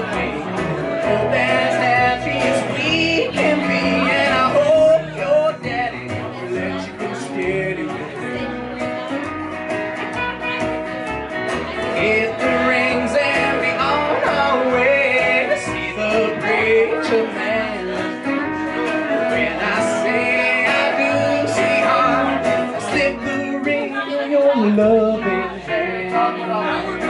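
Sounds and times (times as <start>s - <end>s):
person singing: 0.0s - 8.8s, 11.6s - 27.0s
country band playing: 0.0s - 27.0s.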